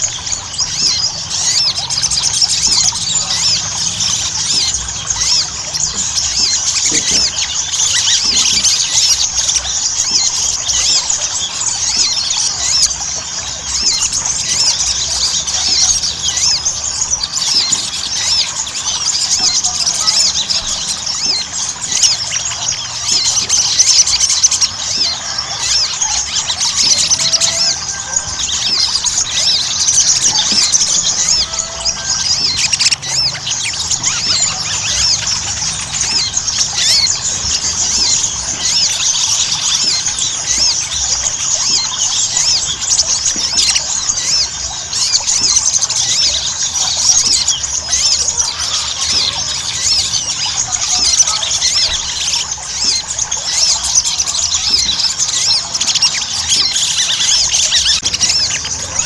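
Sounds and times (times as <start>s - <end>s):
bird chirping and twittering: 0.0s - 59.0s.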